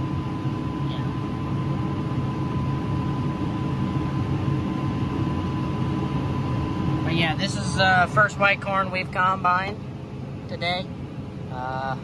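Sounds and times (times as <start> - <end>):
thin steady whine: 0.0 - 12.0.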